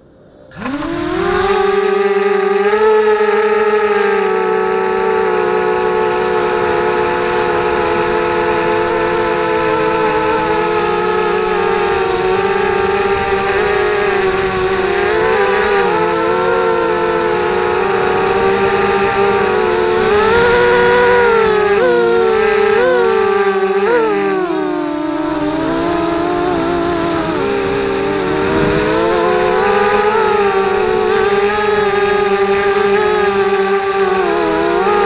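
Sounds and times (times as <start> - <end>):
quadcopter motors whining: 0.0 - 35.0.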